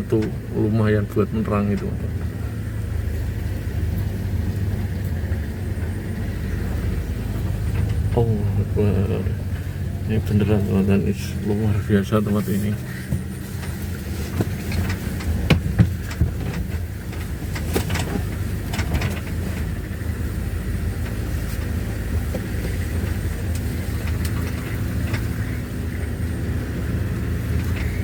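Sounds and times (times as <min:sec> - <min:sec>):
vehicle engine and road rumble: 0:00.0 - 0:28.0
sharp knocks and rattles: 0:01.7 - 0:08.3, 0:12.1 - 0:28.0.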